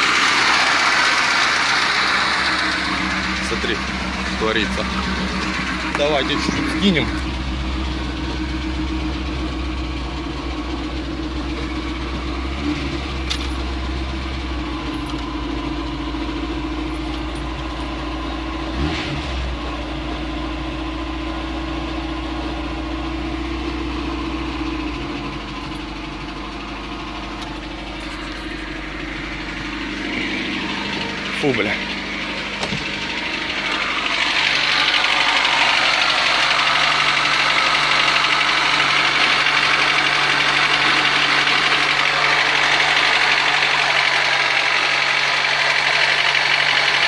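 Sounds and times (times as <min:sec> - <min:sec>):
car engine idling: 0:00.0 - 0:47.0
engine knock: 0:00.0 - 0:47.0.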